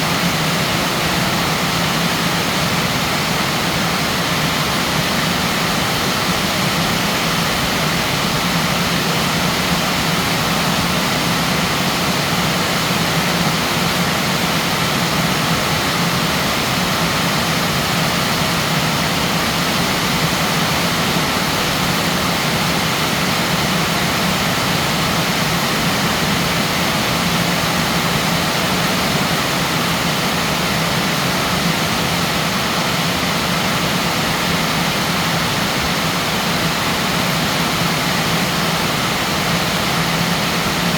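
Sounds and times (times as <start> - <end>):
heavy rain: 0.0 - 40.9
wind: 0.0 - 40.9.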